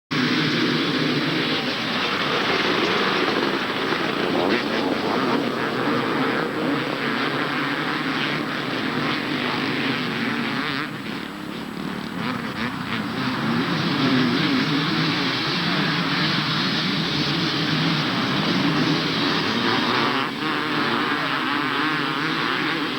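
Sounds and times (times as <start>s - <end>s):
motocross bikes running: 0.1s - 22.9s.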